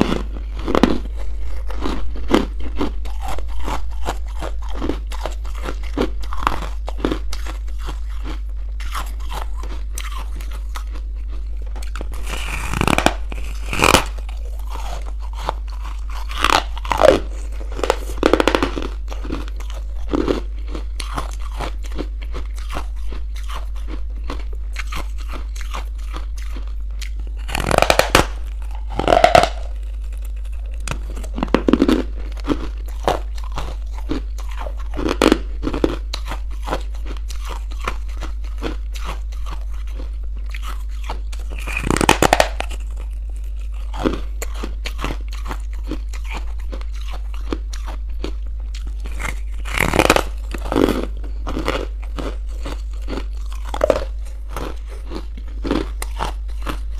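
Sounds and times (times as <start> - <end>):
crunchy food chewing: 0.0 - 56.9
steady low hum: 0.0 - 56.9.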